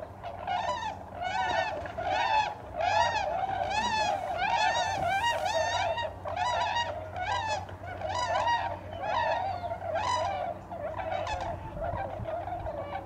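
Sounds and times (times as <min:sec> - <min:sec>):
swans calling: 0:00.0 - 0:13.0.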